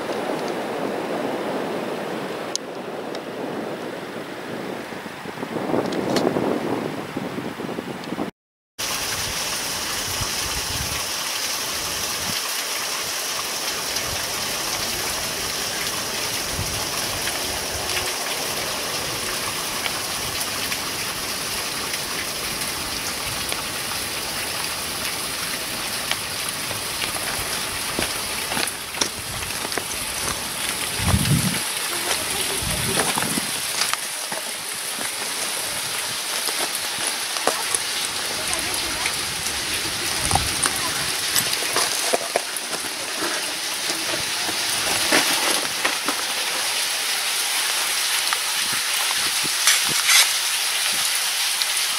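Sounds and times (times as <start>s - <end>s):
meltwater rushing and dripping: 0.0s - 4.4s, 8.8s - 51.9s.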